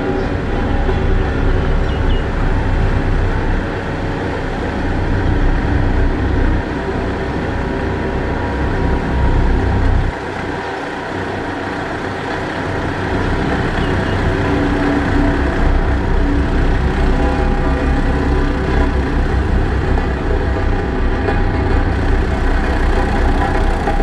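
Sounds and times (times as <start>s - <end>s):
grader diesel engine rumbling: 0.0s - 24.0s.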